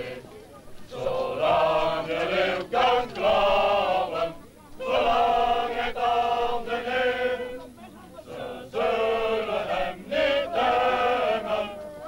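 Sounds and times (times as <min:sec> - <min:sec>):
group singing in unison: 0:00.0 - 0:00.3, 0:00.9 - 0:12.0.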